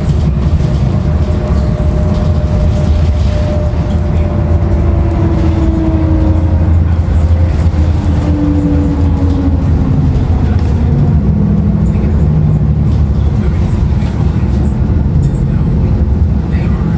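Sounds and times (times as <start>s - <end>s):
bus engine rumble: 0.0s - 16.9s
road noise: 0.0s - 16.9s.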